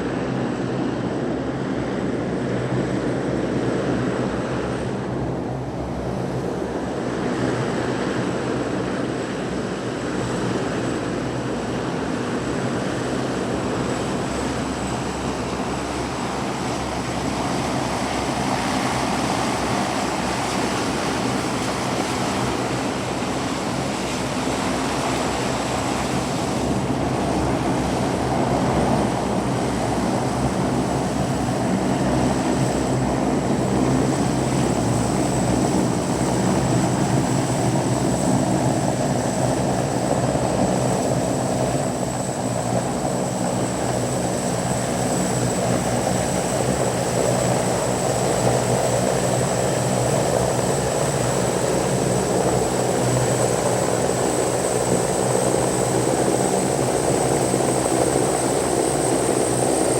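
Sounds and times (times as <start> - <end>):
propeller drone: 0.0 - 59.9.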